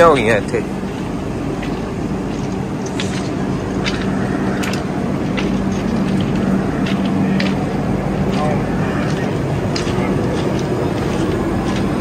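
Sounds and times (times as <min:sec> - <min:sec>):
low mechanical train hum: 0:00.0 - 0:12.0.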